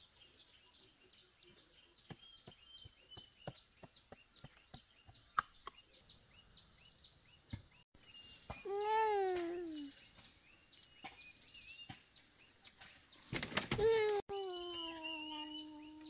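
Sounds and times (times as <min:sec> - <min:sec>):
faint bird chirps: 0:00.0 - 0:13.5, 0:14.3 - 0:16.0.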